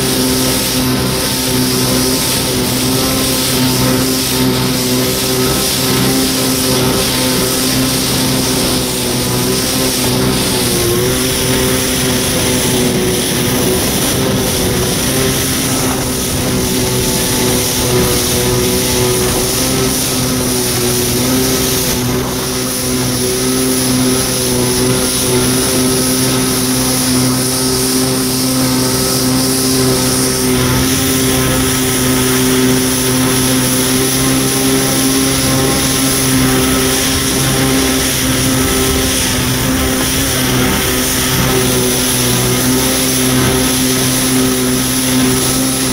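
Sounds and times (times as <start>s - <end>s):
hiss of water spray: 0.0s - 45.9s
jet ski engine running: 0.0s - 45.9s.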